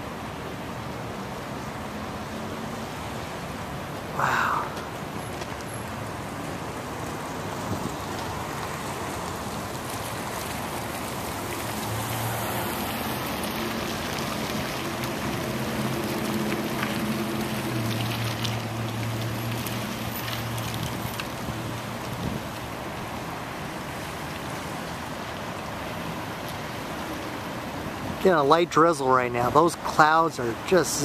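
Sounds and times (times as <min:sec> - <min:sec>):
traffic noise: 0:00.0 - 0:31.0
wind: 0:00.0 - 0:31.0.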